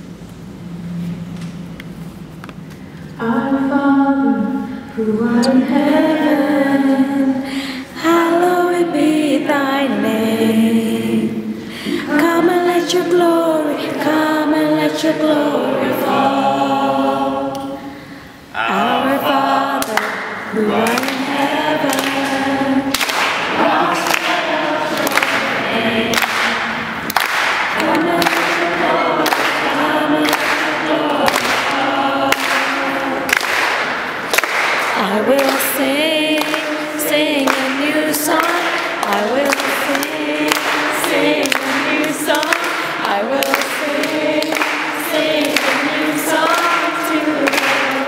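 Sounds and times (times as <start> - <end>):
group singing worship song: 3.2 - 48.0.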